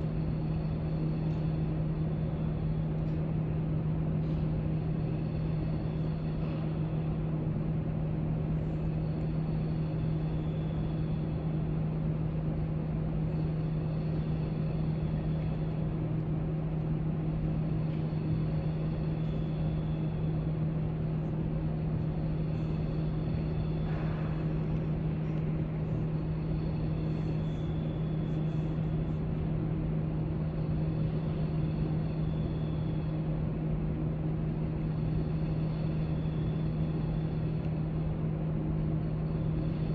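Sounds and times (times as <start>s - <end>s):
low hum: 0.0s - 39.9s.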